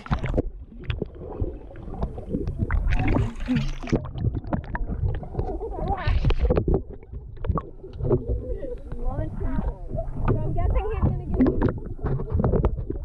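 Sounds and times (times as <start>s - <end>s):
pool water sloshing and splashing: 0.0s - 13.0s.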